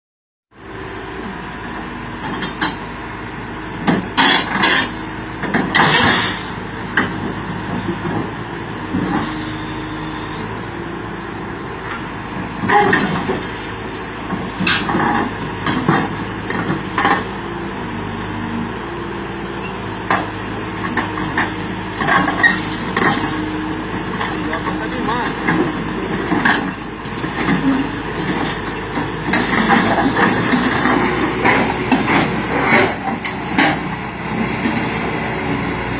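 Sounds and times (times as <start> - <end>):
excavator diesel engine running: 0.6 - 35.9.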